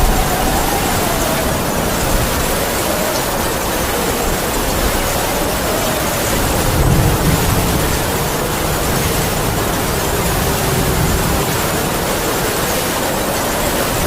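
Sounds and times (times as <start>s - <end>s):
heavy rain falling: 0.0s - 14.0s
wind howling: 0.0s - 14.0s.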